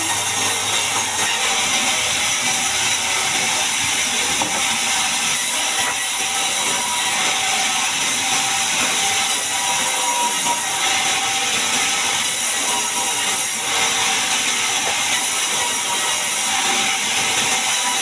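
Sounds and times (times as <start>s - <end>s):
bandsaw cutting through log: 0.0s - 18.0s.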